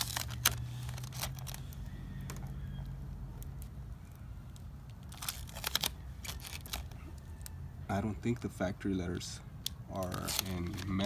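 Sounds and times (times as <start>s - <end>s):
plastic letters clicking and crinkling: 0.0s - 7.6s, 9.0s - 11.0s.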